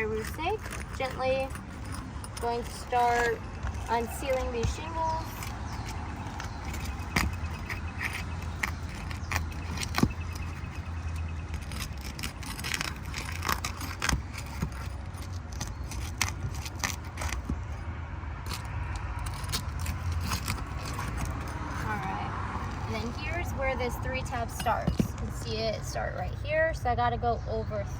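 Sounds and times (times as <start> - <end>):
metal tool scraping roof shingles: 0.0 - 17.8, 18.5 - 25.8.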